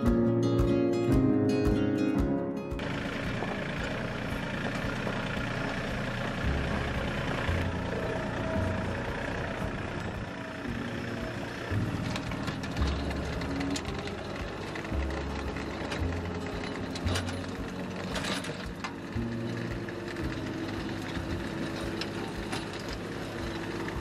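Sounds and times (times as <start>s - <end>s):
diesel tractor engine running: 0.0s - 24.0s
rotary tiller churning soil: 2.8s - 24.0s.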